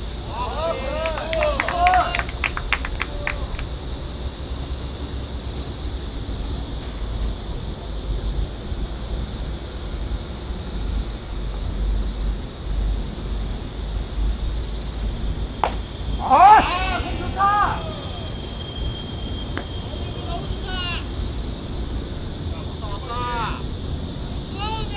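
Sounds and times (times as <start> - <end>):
insects chirping: 0.0 - 24.9.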